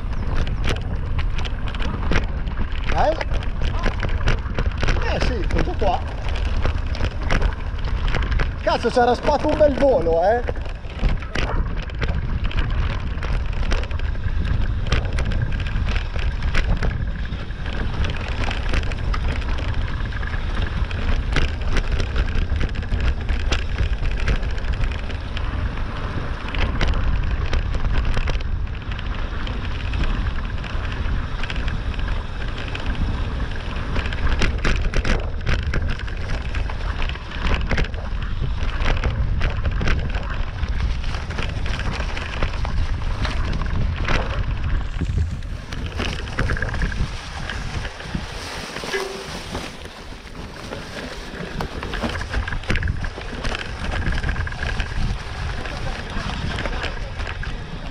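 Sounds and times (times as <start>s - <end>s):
tyres crackling over leaves and stones: 0.0s - 57.9s
wind rumbling on microphone: 0.0s - 57.9s.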